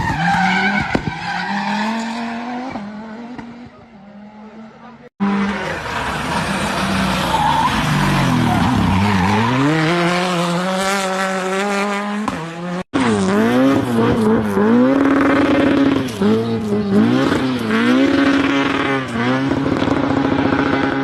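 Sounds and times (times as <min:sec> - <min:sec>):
tyres skidding: 0:00.0 - 0:21.0
racing car engine revving: 0:01.8 - 0:21.0.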